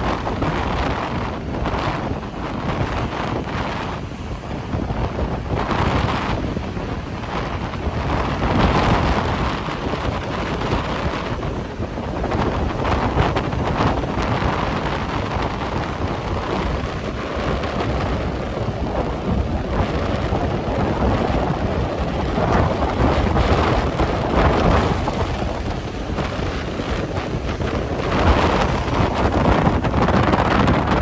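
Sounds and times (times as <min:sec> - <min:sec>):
strong wind buffeting microphone: 0:00.0 - 0:31.0.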